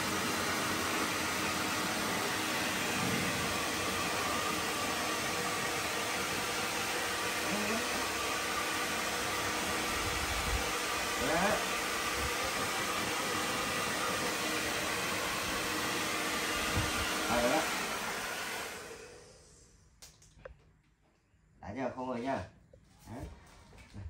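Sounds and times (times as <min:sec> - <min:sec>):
hair dryer blowing: 0:00.0 - 0:19.7.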